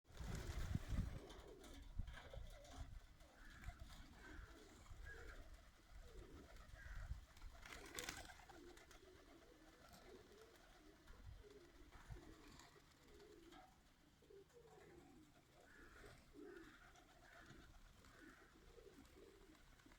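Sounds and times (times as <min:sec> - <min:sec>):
pigeons cooing softly: 0:00.1 - 0:19.9.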